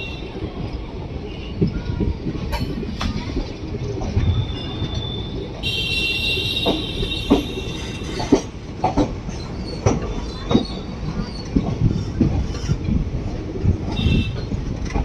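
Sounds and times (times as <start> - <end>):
train rumbling along track: 0.0 - 15.0
wheels clanking over rail joints: 0.0 - 15.0.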